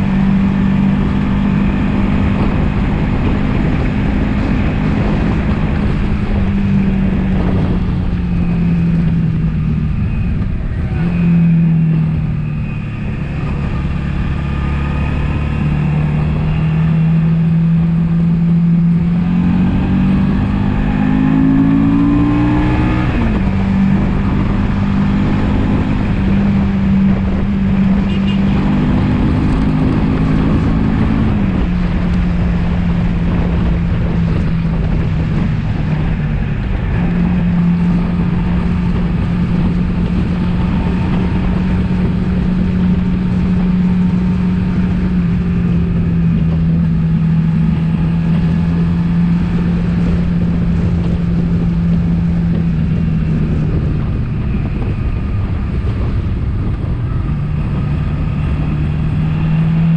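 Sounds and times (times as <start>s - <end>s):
motorcycle engine pulling uphill: 0.0s - 59.9s
wind rush: 0.0s - 59.9s.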